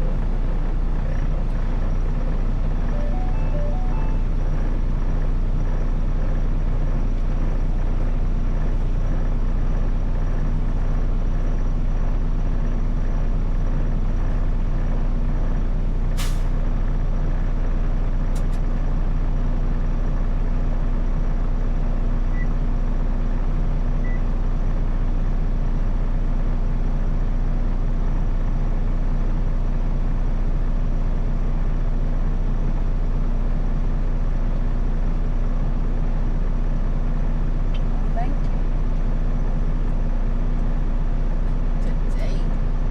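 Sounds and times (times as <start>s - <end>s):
diesel truck engine droning: 0.0s - 42.9s.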